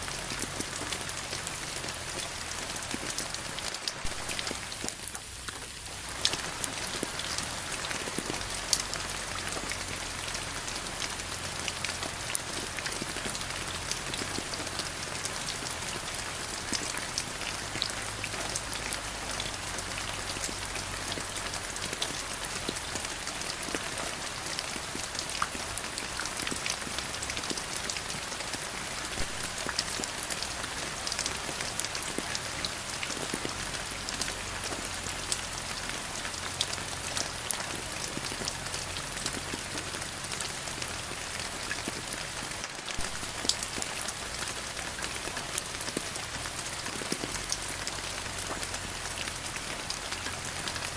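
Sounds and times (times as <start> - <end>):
steady rain hiss: 0.0 - 50.9
rain drop ticks: 0.3 - 50.9.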